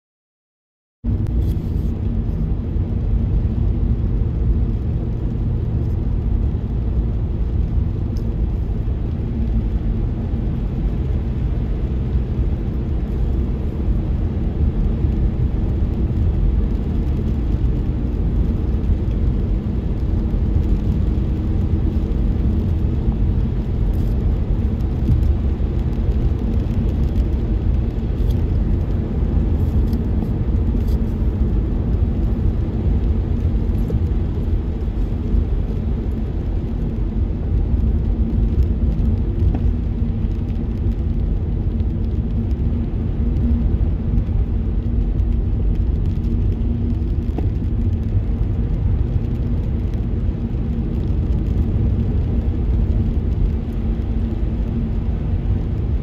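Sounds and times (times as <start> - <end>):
car engine and tyres rumbling: 1.0 - 56.0.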